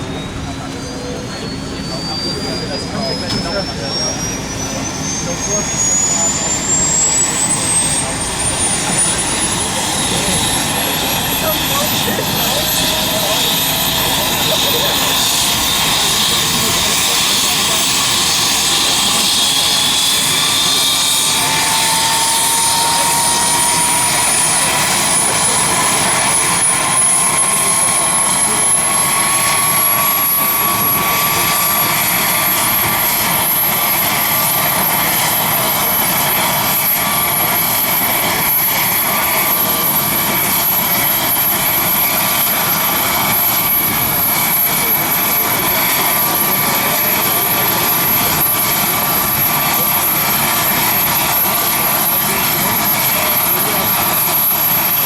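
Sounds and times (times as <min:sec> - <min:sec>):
helicopter rotor and engine noise: 0:00.0 - 0:55.0
high turbine whine: 0:00.0 - 0:55.0.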